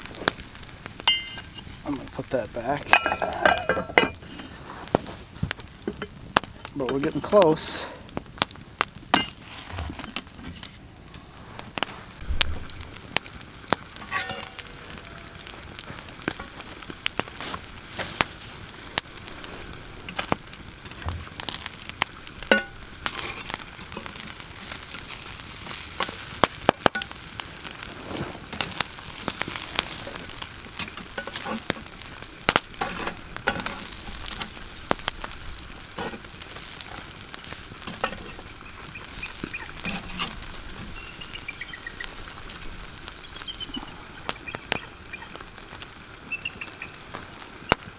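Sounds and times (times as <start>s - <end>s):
fire pops and crackles: 0.0s - 47.9s
sausage sizzling over fire: 0.0s - 47.9s.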